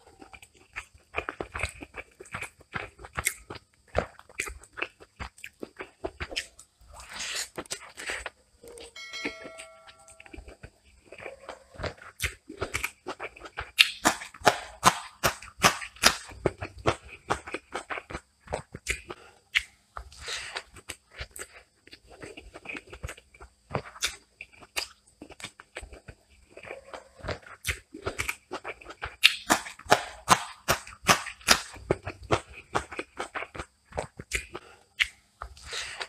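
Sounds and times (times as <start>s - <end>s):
chewing and mouth smacking: 0.0s - 8.9s, 10.2s - 14.5s, 15.3s - 29.8s, 30.7s - 36.0s.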